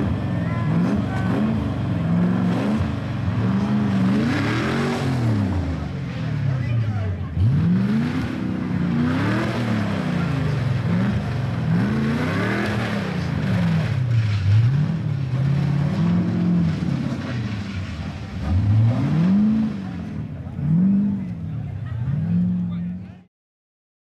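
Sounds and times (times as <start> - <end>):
car engine revving: 0.0 - 23.2.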